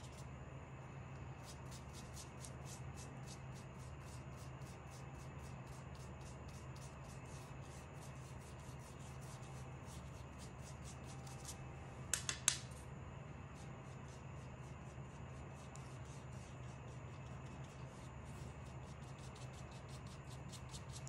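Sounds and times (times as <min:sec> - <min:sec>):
paintbrush scrubbing on paper: 0:01.4 - 0:11.6, 0:13.5 - 0:21.0.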